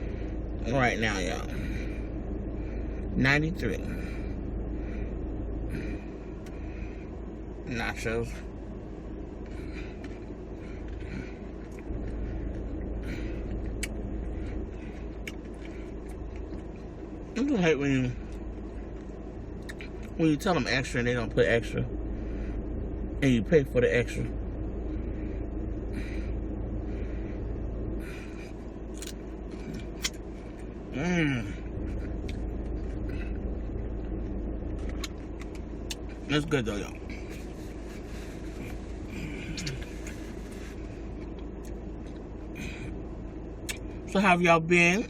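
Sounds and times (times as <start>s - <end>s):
low vehicle rumble: 0.0s - 45.0s.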